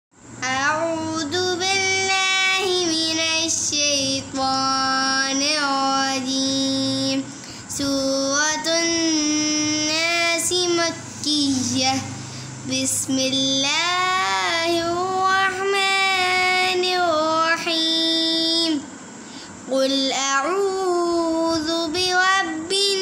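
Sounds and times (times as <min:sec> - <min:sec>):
woman chanting recitation: 0:00.4 - 0:18.9, 0:19.6 - 0:23.0.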